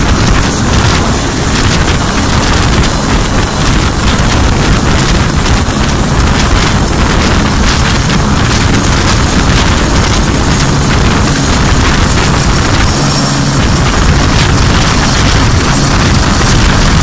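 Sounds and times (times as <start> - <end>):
helicopter rotor beat: 0.0 - 17.0
high steady whine: 0.0 - 17.0
rushing downwash noise: 0.0 - 17.0.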